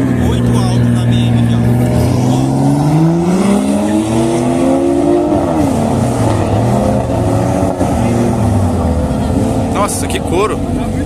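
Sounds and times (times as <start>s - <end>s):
drag racing car engines accelerating: 0.0s - 11.0s.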